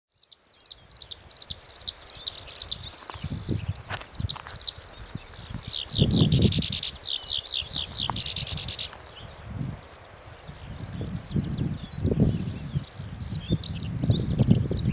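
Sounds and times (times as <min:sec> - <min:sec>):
warbler singing: 0:00.1 - 0:14.9.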